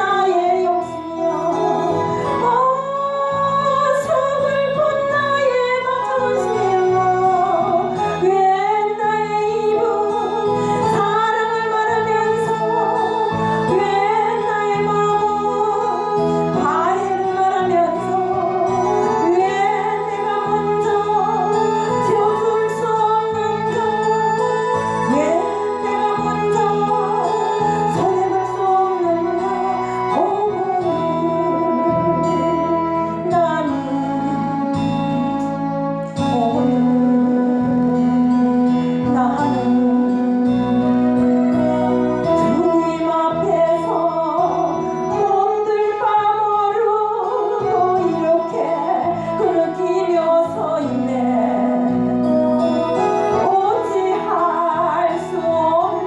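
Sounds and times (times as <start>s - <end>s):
instrumental accompaniment: 0.0s - 56.0s
woman singing with vibrato: 0.0s - 56.0s.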